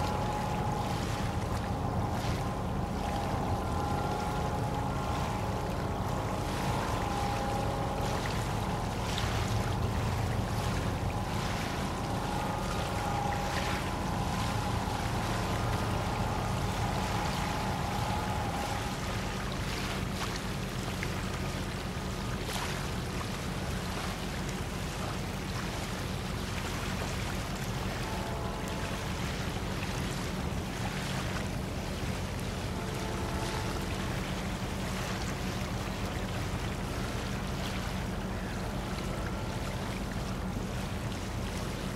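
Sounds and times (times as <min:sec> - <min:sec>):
boat diesel engines rumbling: 0:00.0 - 0:41.9
faint engine whine: 0:00.0 - 0:41.9.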